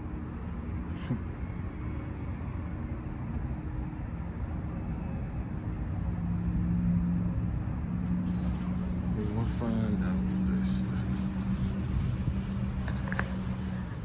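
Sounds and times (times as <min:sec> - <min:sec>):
low rumble of vehicle noise: 0:00.0 - 0:14.0
steady low hum: 0:00.0 - 0:14.0.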